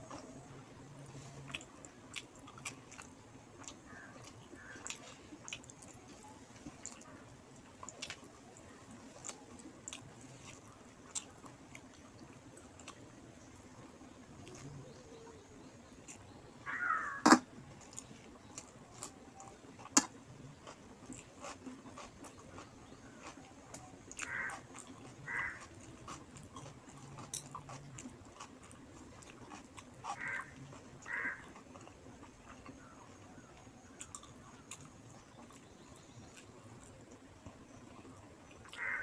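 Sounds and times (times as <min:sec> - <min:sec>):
person chewing food: 0:01.1 - 0:13.1, 0:17.3 - 0:39.0.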